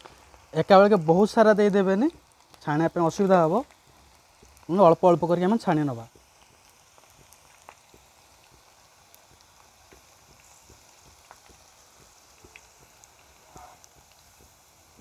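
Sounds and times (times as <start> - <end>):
deep-frying in hot oil: 0.0 - 15.0.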